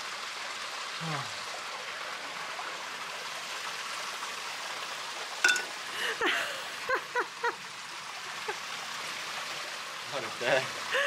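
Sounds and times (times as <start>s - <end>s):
water rushing through gate: 0.0s - 11.0s.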